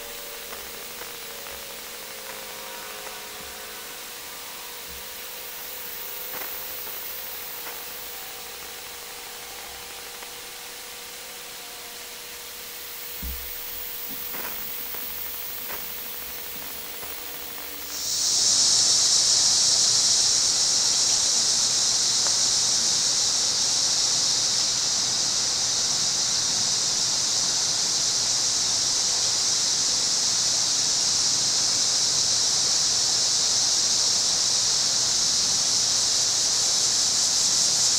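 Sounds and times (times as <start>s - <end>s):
loud insect buzz: 0.0s - 37.9s.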